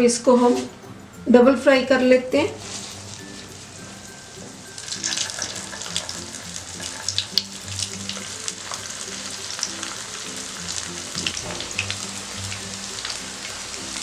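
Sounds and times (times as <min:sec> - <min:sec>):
food deep-frying in oil: 0:02.6 - 0:14.0.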